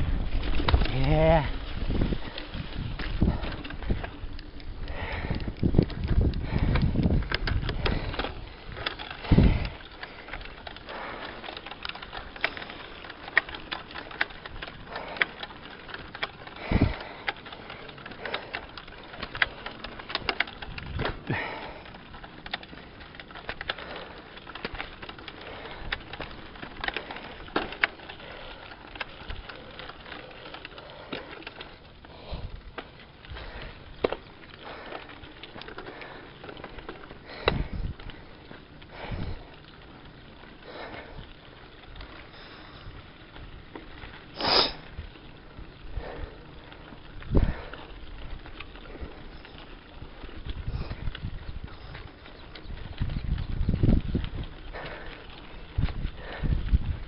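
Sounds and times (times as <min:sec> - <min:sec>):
bike rattling over rough road: 0:00.0 - 0:57.0.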